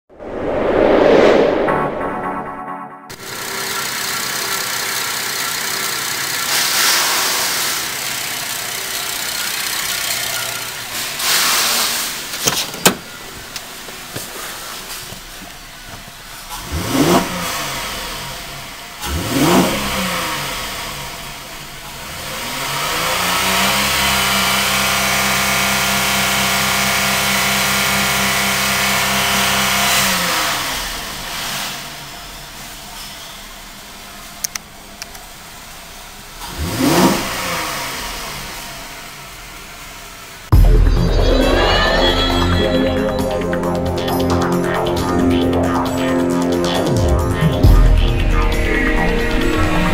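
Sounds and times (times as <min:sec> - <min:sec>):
car engine idling and revving: 0:03.1 - 0:41.6, 0:42.6 - 0:49.9.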